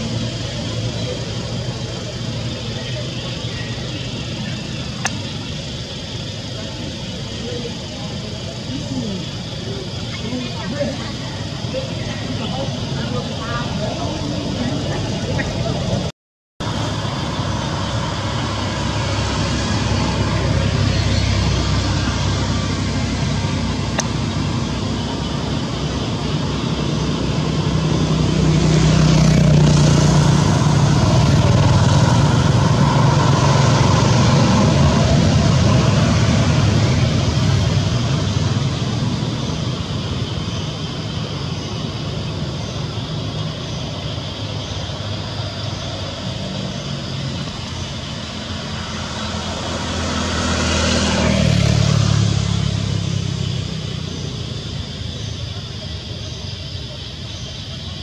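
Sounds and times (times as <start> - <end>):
low hum of traffic: 0.0 - 58.0
vehicles passing: 0.0 - 58.0.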